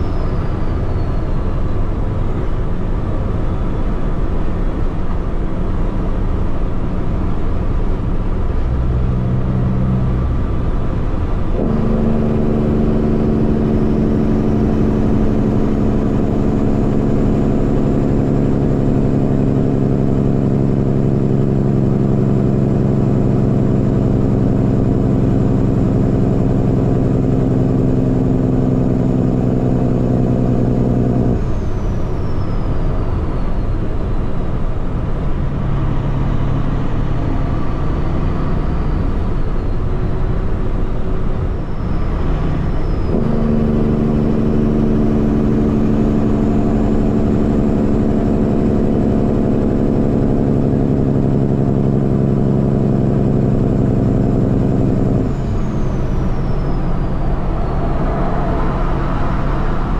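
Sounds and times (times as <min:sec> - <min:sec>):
diesel truck engine hum: 0:00.0 - 0:59.9
road noise: 0:00.0 - 0:59.9.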